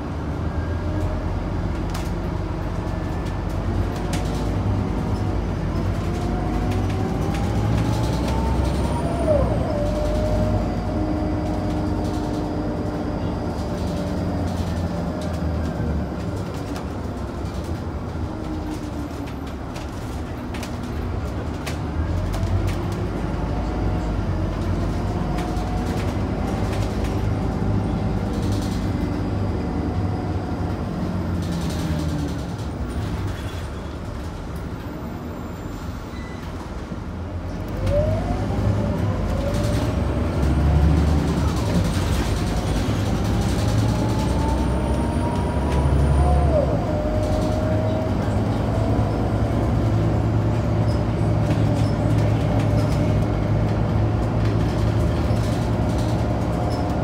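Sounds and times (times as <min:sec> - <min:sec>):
bus diesel engine under way: 0:00.0 - 0:57.0.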